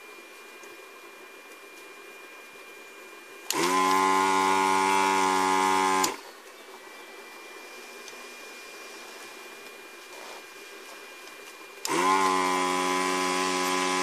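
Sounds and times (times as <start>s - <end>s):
desoldering pump buzzing: 0.0s - 14.0s.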